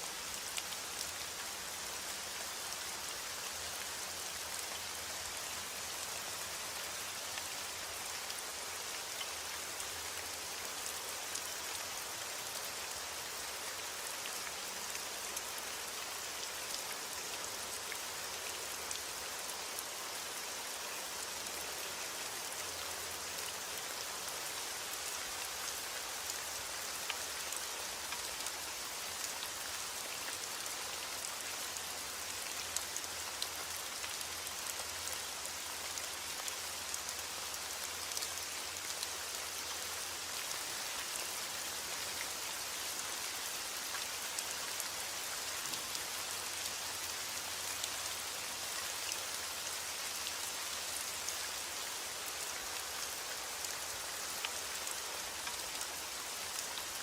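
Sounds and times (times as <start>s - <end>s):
heavy rain on hard surface: 0.0s - 57.0s.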